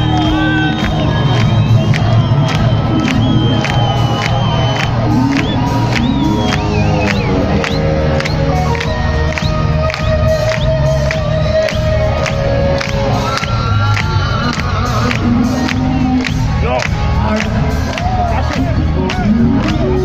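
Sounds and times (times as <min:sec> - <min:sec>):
audience cheering and clapping: 0:00.0 - 0:20.0
rock band playing live: 0:00.0 - 0:20.0.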